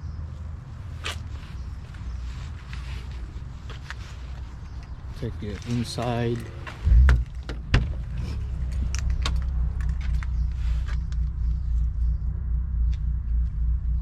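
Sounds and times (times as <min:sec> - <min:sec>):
car engine idling: 0:01.8 - 0:14.0.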